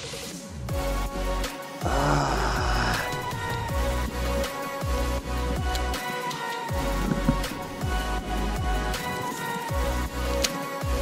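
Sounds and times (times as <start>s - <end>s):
electronic music with bass: 0.7s - 11.0s.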